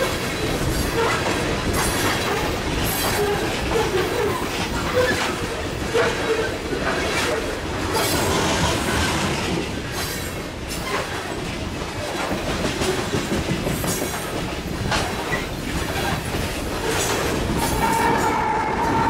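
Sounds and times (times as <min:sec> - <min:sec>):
diesel locomotive: 0:00.0 - 0:19.0
train cars rumbling: 0:00.0 - 0:19.0
train wheels clacking over rail joints: 0:00.0 - 0:19.0.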